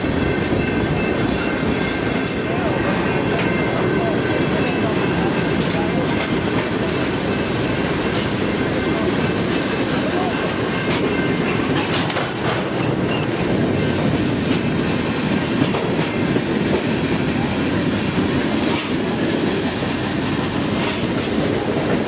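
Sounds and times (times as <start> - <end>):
freight train wheels rumbling: 0.0 - 22.0
wheels clacking over rail joints: 0.0 - 22.0.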